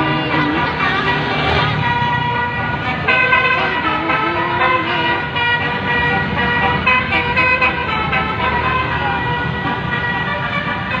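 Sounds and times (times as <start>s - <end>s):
low bus rumble: 0.0s - 11.0s
multi-note bus horn tune: 0.0s - 11.0s.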